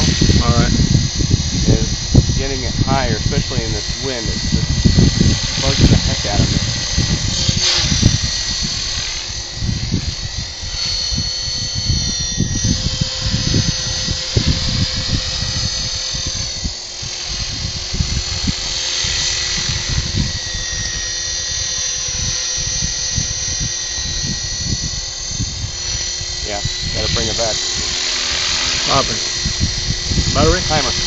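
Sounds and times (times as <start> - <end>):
model helicopter rotor whine: 0.0 - 31.0
wind buffeting microphone: 0.0 - 31.0.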